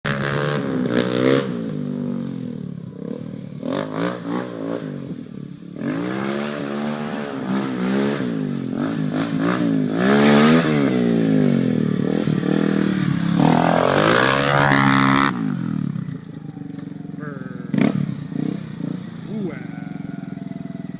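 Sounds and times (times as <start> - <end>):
atv engine revving: 0.1 - 20.9.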